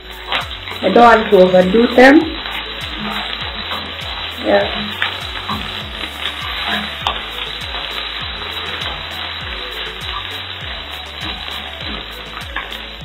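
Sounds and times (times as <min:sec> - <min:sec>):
background music with steady beat: 0:00.0 - 0:13.0
eggs sizzling in a pan: 0:00.0 - 0:13.0
spatula stirring in pan: 0:00.0 - 0:13.0.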